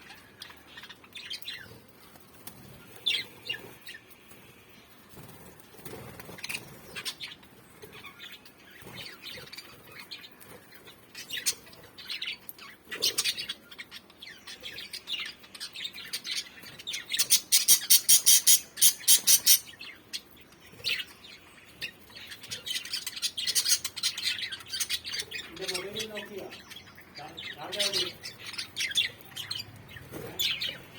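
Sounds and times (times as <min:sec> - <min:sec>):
lovebirds chirping and squawking: 0:00.0 - 0:30.9.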